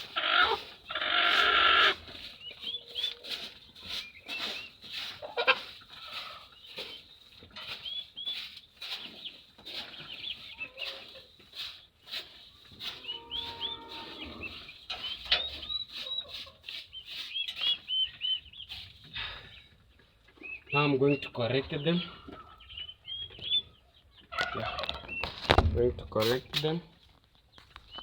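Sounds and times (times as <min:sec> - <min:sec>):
chicks peeping: 0:00.0 - 0:25.5
rustling and scuffling: 0:00.0 - 0:28.0.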